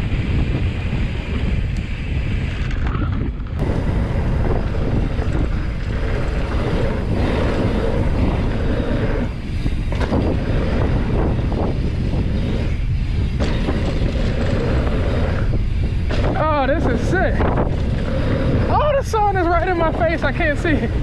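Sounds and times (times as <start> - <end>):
bike rattling over bumps: 0.0 - 21.0
wind rushing over microphone: 0.0 - 21.0
tyres rolling on dirt: 2.4 - 21.0.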